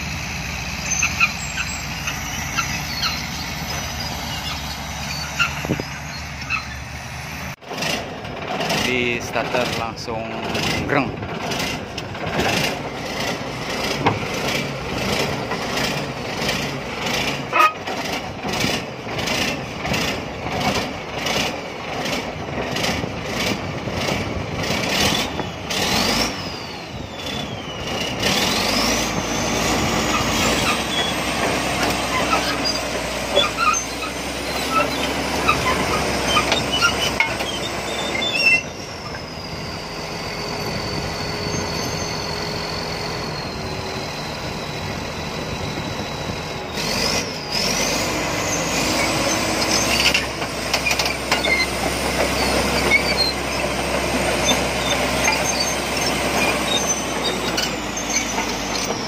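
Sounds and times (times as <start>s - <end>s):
bulldozer diesel engine whine: 0.0s - 59.0s
metal tracks clattering: 7.6s - 59.0s.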